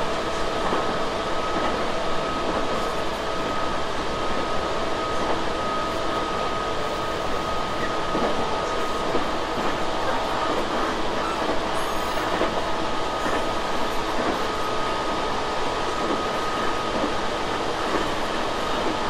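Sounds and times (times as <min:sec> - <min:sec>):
train rolling noise: 0:00.0 - 0:19.0.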